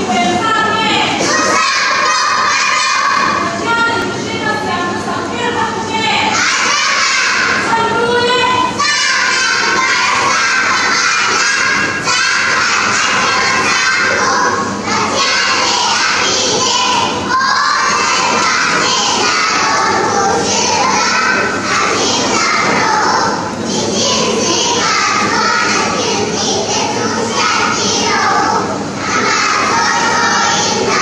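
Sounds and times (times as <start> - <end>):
children chanting in unison: 1.2 - 3.6, 6.3 - 7.7, 8.7 - 31.0.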